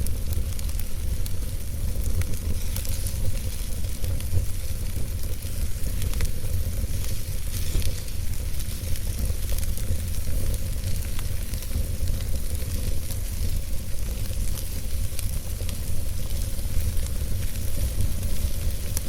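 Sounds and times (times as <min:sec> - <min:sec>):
campfire hissing: 0:00.0 - 0:19.0
fire crackles and pops: 0:00.0 - 0:19.0.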